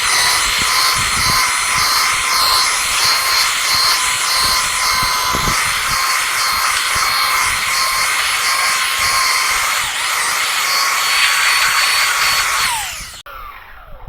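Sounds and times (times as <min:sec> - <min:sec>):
belt sander whining: 0:00.0 - 0:13.7
sander spinning down: 0:00.0 - 0:14.0.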